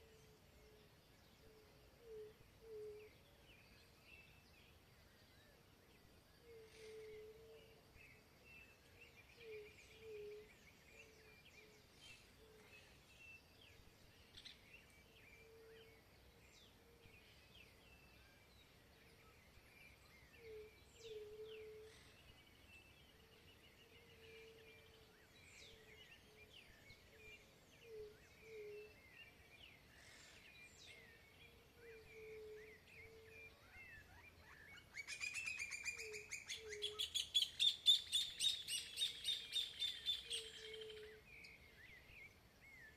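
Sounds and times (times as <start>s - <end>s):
loud bird song fast repeated notes: 0.0s - 42.9s
birds singing: 6.4s - 42.9s.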